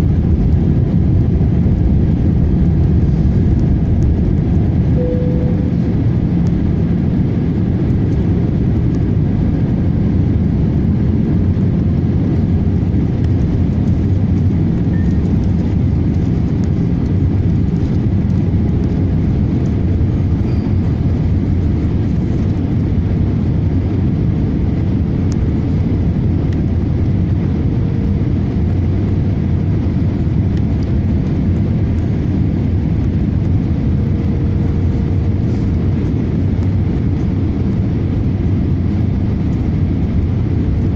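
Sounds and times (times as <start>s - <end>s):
airliner cabin engine noise: 0.0s - 40.9s.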